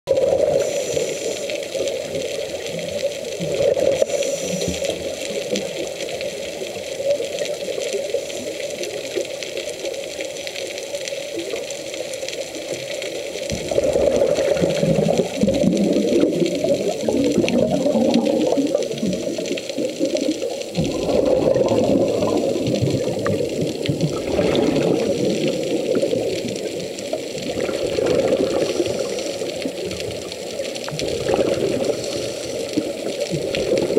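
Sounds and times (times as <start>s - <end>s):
muffled underwater water rushing: 0.1s - 33.9s.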